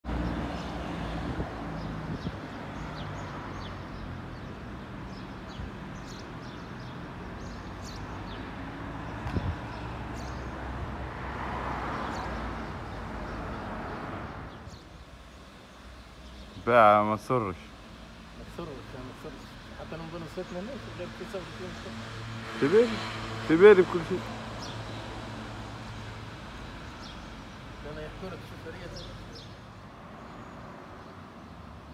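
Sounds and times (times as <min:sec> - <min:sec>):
small birds chirping: 0:00.1 - 0:11.0, 0:11.8 - 0:31.9.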